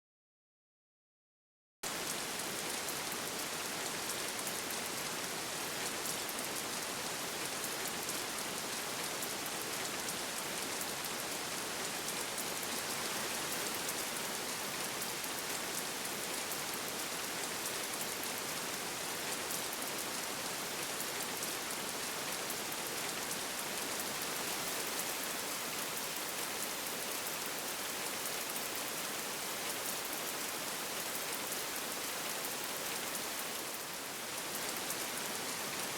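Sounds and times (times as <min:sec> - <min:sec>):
steady rain: 0:01.8 - 0:35.9.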